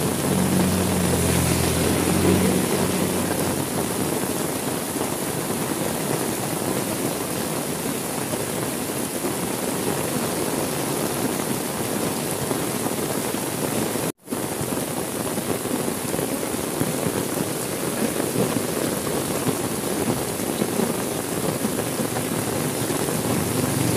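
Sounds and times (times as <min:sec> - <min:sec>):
heavy rain: 0:00.0 - 0:23.9.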